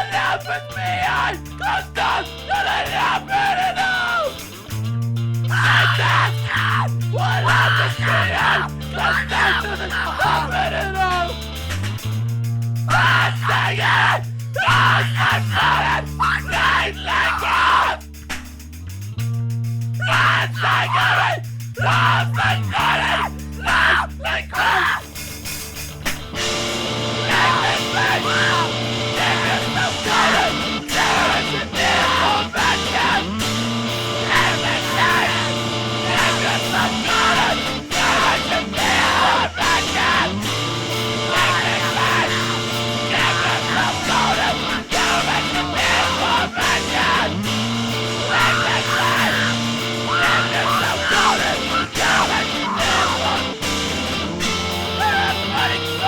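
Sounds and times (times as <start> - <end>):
person shouting vocals: 0.0 - 4.4, 5.5 - 11.4, 12.9 - 18.0, 20.0 - 25.1, 27.2 - 33.5, 34.2 - 40.5, 41.2 - 47.6, 48.2 - 53.6, 54.8 - 56.0
bass guitar: 0.0 - 56.0
distorted electric guitars: 0.0 - 56.0
drums: 0.0 - 56.0.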